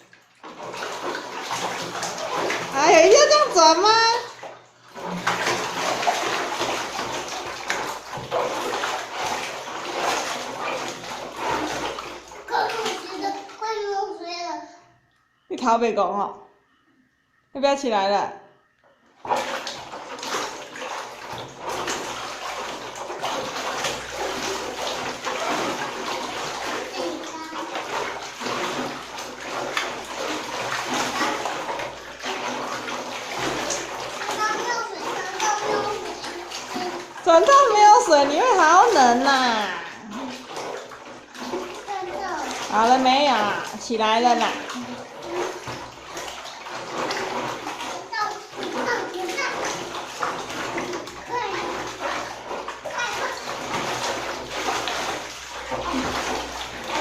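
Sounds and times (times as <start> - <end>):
bath water sloshing and splashing: 0.0 - 57.0.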